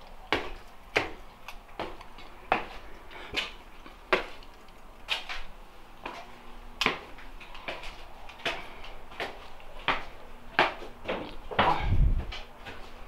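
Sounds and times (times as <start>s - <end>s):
footsteps climbing stairs: 0.0s - 13.0s.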